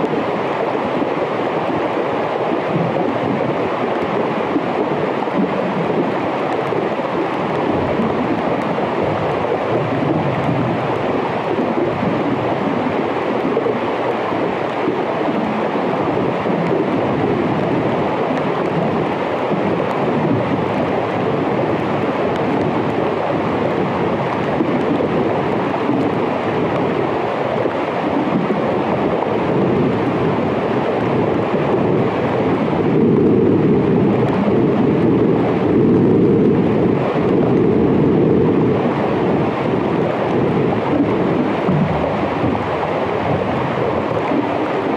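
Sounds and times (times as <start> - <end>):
underwater rushing noise: 0.0 - 44.9.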